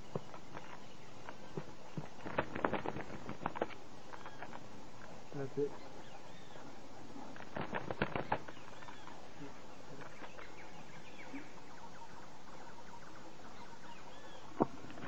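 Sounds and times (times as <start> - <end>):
faint chirping bird calls: 0.0 - 15.0
steady background hiss: 0.0 - 15.0.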